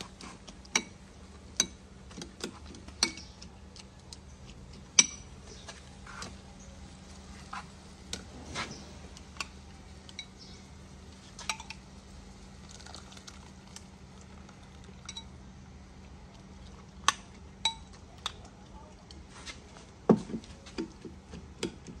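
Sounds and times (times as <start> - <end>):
faint low hum: 0.0 - 20.6.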